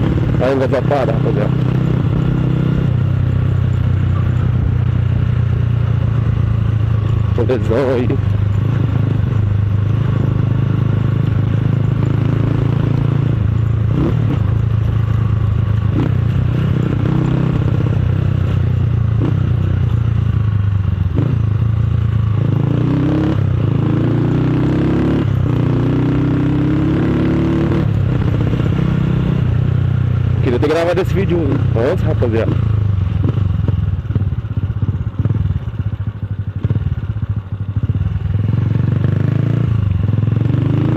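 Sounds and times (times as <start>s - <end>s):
loud motorcycle exhaust: 0.0s - 40.9s.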